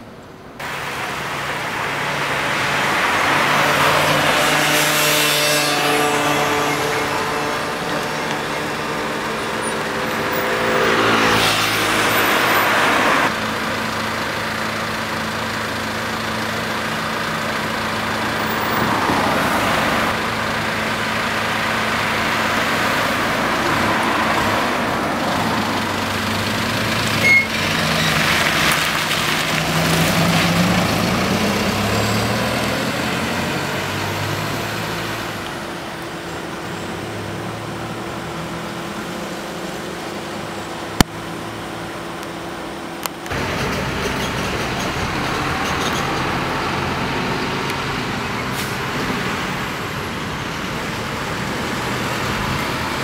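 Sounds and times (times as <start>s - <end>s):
truck diesel engine: 0.0s - 53.0s.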